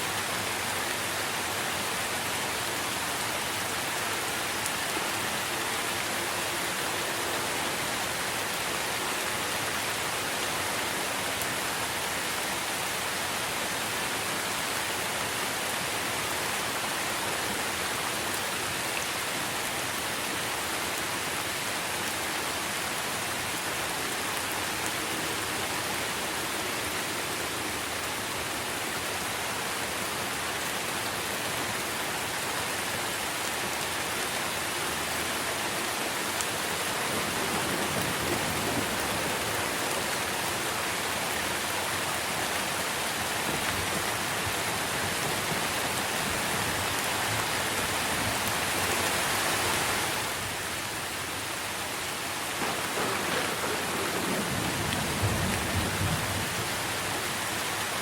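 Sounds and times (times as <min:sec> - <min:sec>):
rain on tree foliage: 0:00.0 - 0:58.0.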